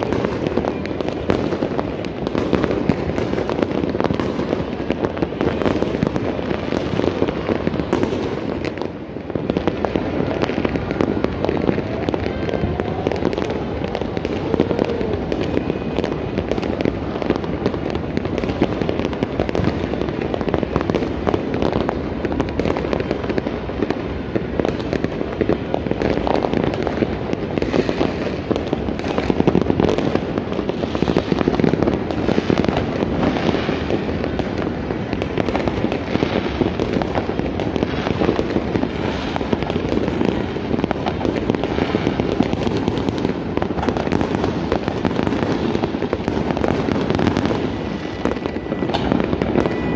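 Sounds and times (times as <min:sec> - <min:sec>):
distant fireworks bangs: 0:00.0 - 0:49.9
firecracker cracks and pops: 0:00.0 - 0:49.9.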